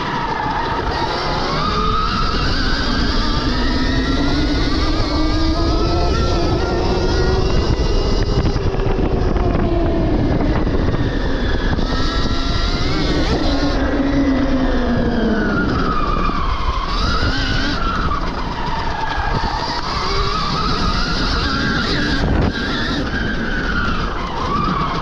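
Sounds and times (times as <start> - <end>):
constant rushing noise: 0.0 - 25.0
electric dirt bike motor whining: 0.0 - 25.0.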